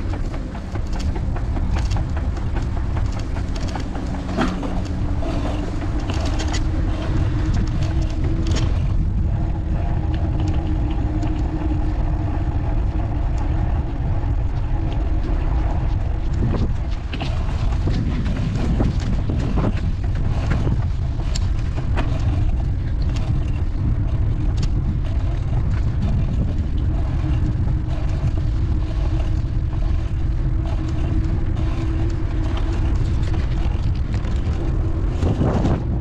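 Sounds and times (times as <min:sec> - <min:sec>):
wind buffeting the microphone: 0:00.0 - 0:36.0.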